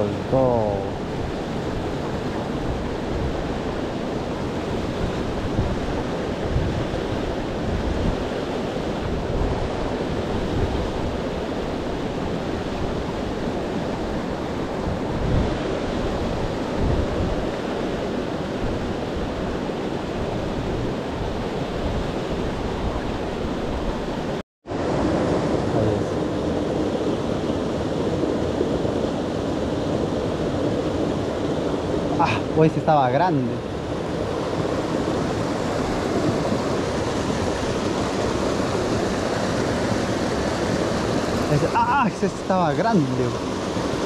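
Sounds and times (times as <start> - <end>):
wind buffeting microphone: 0.0 - 32.2, 33.4 - 44.0.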